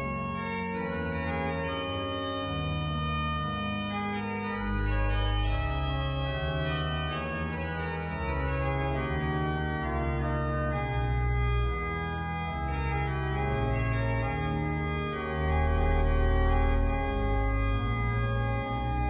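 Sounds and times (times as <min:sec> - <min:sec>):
pipe organ playing chords: 0:00.0 - 0:19.0.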